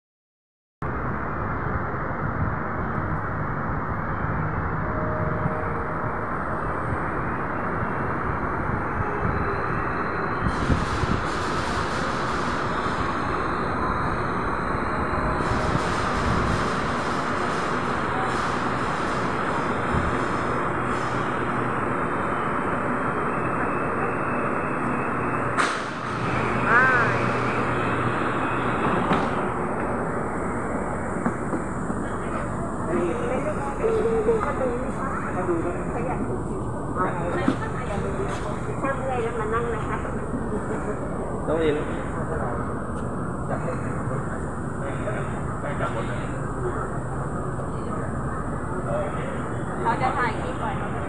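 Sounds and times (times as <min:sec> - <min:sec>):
monorail cabin rumble and hiss: 0:00.9 - 0:51.0.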